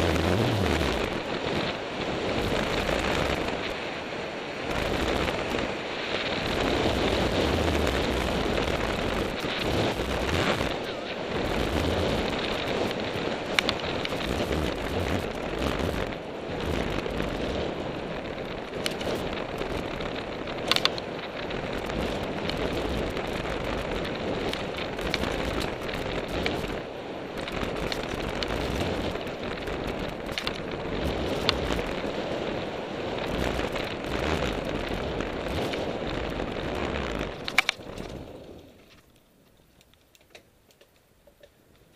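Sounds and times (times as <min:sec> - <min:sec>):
wind on microphone: 0:00.0 - 0:39.1
bike tyres rattling on dirt trail: 0:00.0 - 0:41.9.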